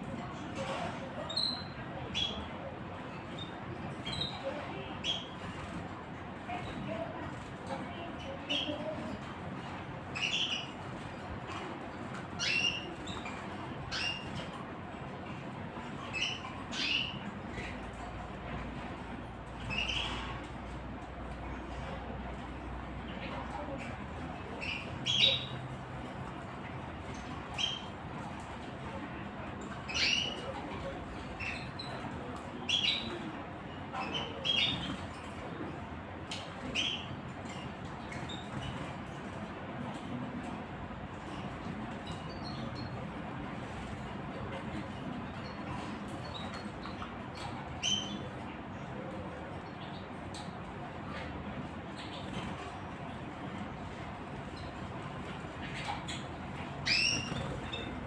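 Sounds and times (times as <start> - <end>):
low background hum: 0.0 - 58.0
outdoor background noise: 0.0 - 58.0
small birds chirping: 0.1 - 58.0.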